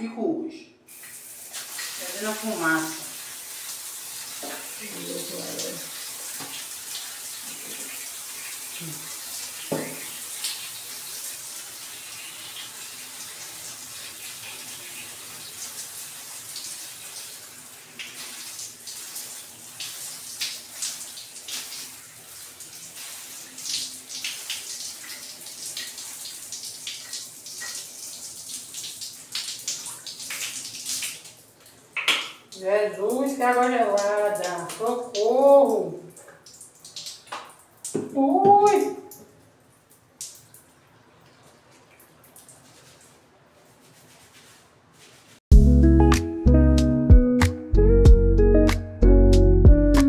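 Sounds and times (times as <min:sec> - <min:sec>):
splashing while washing hair: 0:00.9 - 0:45.5
water running: 0:00.9 - 0:46.6.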